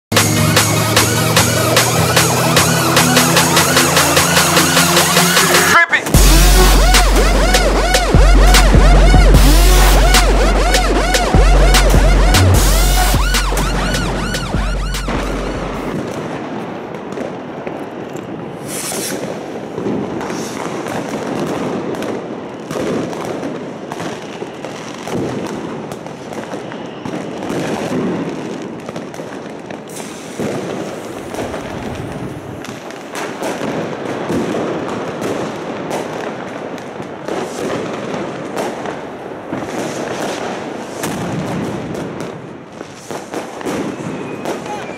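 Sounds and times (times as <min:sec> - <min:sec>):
firecracker bangs and crackles: 0:00.1 - 0:44.9
rockets overhead: 0:00.1 - 0:44.9.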